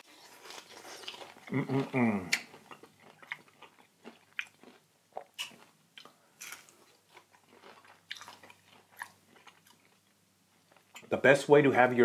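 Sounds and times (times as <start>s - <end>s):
person chewing crunchy food: 0.0s - 11.1s.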